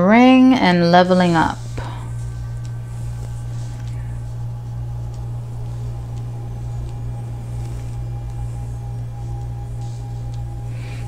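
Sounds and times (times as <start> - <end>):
steady low hum: 0.0 - 11.0
hands clicking on cards: 1.8 - 11.0.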